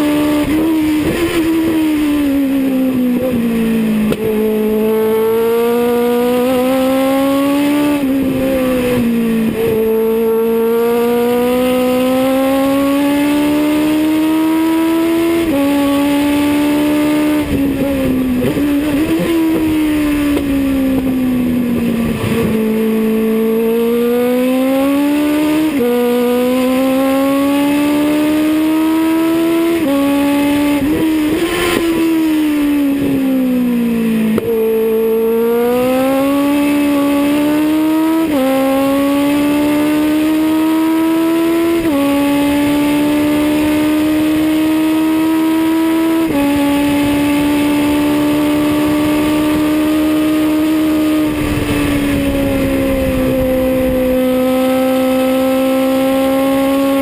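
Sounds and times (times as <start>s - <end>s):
racing car engine revving: 0.0s - 57.0s
wind and road noise: 0.0s - 57.0s.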